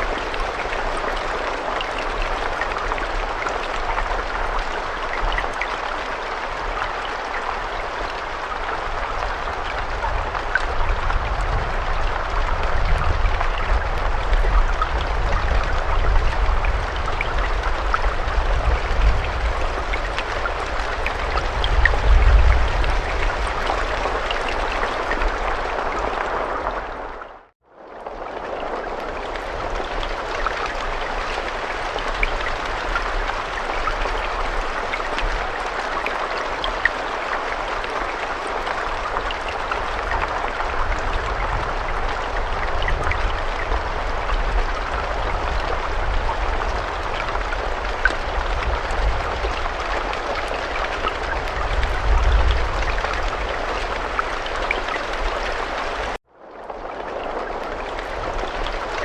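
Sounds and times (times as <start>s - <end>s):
raindrops pattering: 0.0s - 59.0s
steady rain falling: 0.0s - 59.0s.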